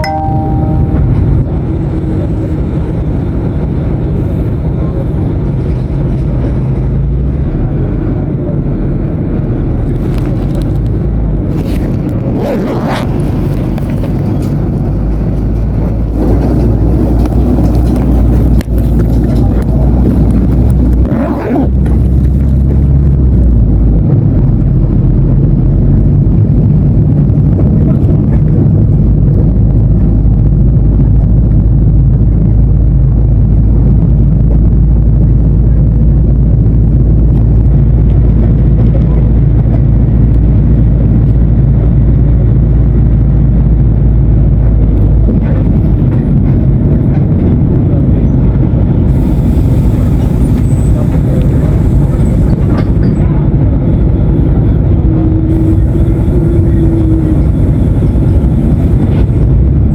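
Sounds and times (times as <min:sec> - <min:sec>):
bus diesel engine running: 0:00.0 - 0:59.9
wind noise on microphone: 0:00.0 - 0:59.9.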